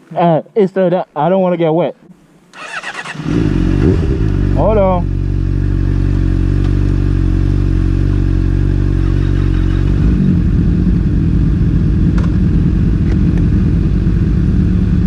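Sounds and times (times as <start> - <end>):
motorcycle engine idling: 2.6 - 15.0.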